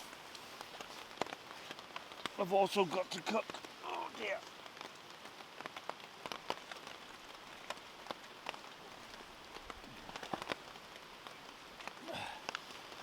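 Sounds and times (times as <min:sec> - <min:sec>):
rain hissing: 0:00.0 - 0:13.0
raindrops tapping a surface: 0:00.0 - 0:13.0.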